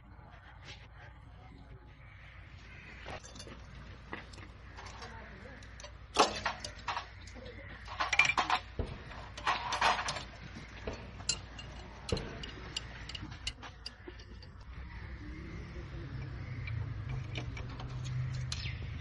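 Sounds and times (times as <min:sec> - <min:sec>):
hard objects clicking and clattering: 0:03.1 - 0:19.0.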